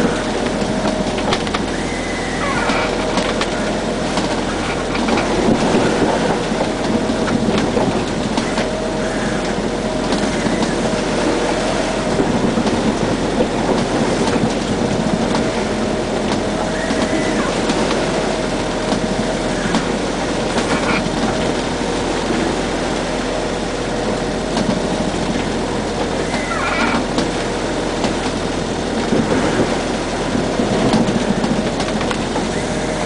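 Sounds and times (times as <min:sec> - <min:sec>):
autopilot motor whining: 0:00.0 - 0:33.0
rushing sea: 0:00.0 - 0:33.0
wind: 0:00.0 - 0:33.0.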